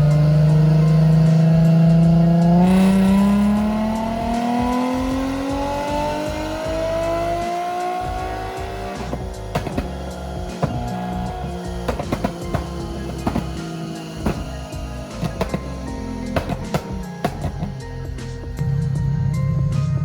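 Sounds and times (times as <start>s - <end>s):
car engine revving: 0.0s - 20.0s
music: 0.0s - 20.0s.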